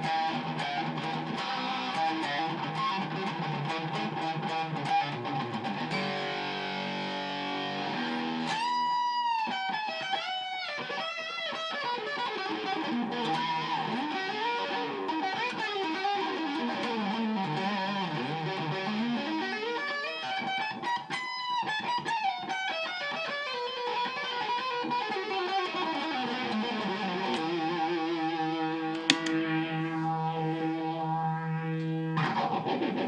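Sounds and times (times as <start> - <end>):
electric guitar with effects: 0.0 - 33.0.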